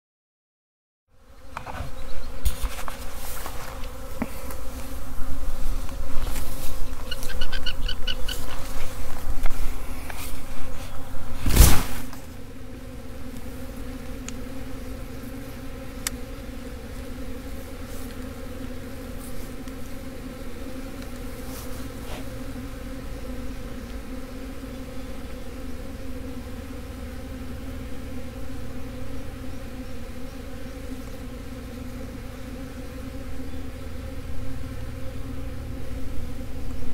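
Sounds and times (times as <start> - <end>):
bee swarm buzzing: 1.1 - 36.9.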